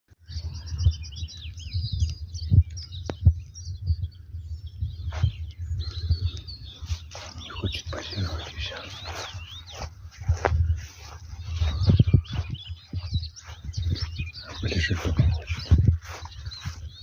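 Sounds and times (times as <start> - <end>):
small birds chirping and twittering: 0.1 - 17.0.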